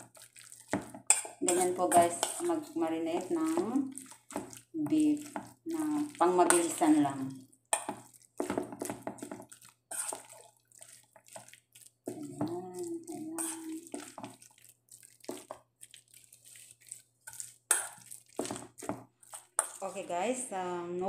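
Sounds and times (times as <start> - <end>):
hand squishing meat in marinade: 0.0 - 20.4.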